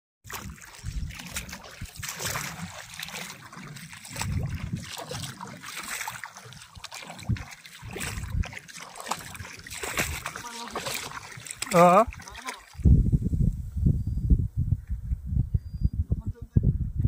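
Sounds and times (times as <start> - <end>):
wind buffeting microphone: 0.3 - 17.0.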